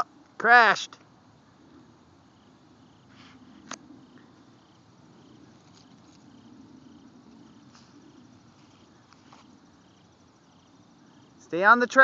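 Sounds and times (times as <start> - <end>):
faint crickets chirping: 0.0 - 12.0.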